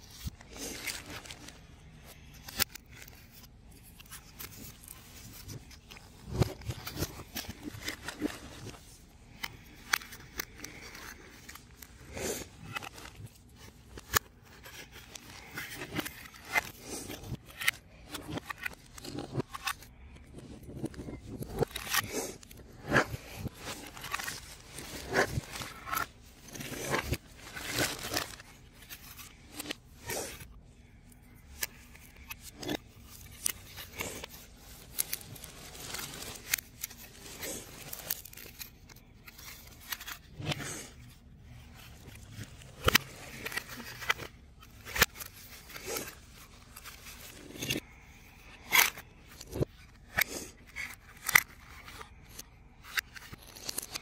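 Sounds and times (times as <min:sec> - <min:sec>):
crinkling: 0:00.0 - 0:54.0
puzzle pieces scraping: 0:00.1 - 0:54.0.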